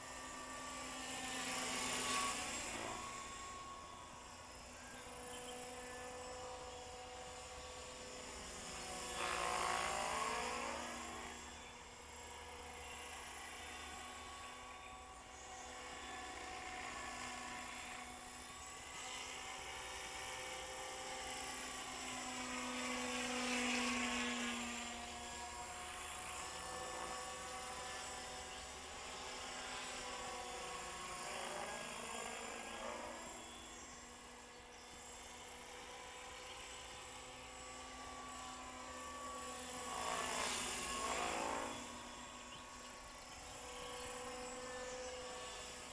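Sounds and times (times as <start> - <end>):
model helicopter rotor whine: 0.0 - 45.9.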